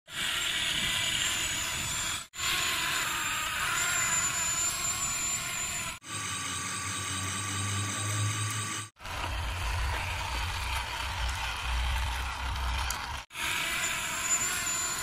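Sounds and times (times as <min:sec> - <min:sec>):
toy motors and gears whirring: 0:00.1 - 0:15.0.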